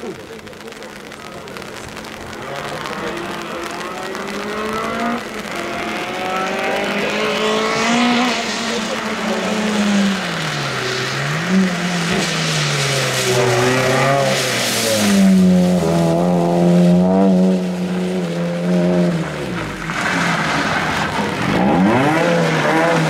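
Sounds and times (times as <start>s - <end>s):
rally car engine revving: 0.0s - 23.0s
rush of noise: 0.0s - 23.0s.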